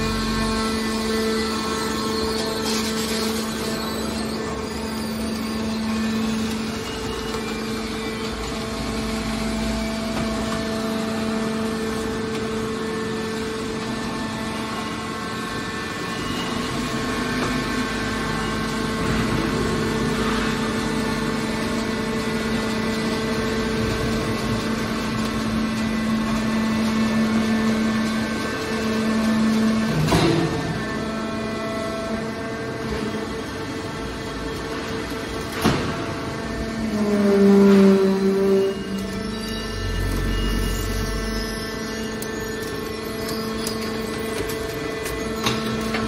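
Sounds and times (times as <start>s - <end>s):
hydraulic power unit humming: 0.0s - 46.0s.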